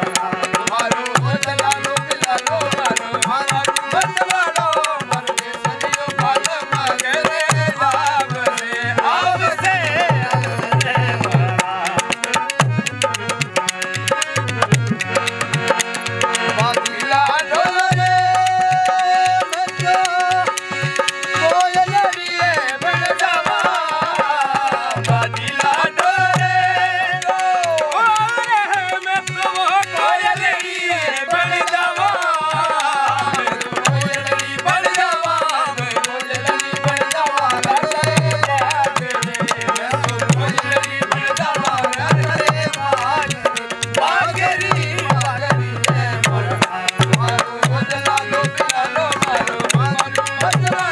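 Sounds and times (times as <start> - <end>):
hand drum beating: 0.0 - 26.6, 32.5 - 50.9
harmonium held notes: 0.0 - 50.9
man singing: 0.0 - 50.9
wooden clappers: 0.0 - 50.9.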